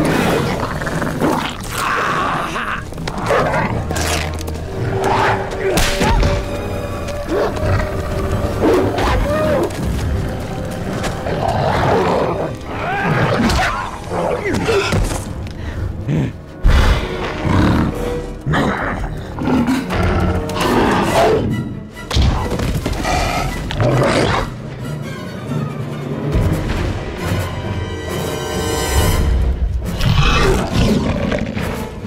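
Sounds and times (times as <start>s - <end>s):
dramatic orchestral score: 0.0s - 32.0s.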